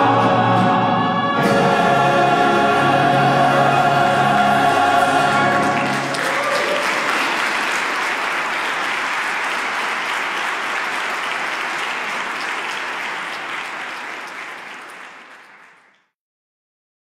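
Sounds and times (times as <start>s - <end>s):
congregation applauding: 1.6s - 16.1s.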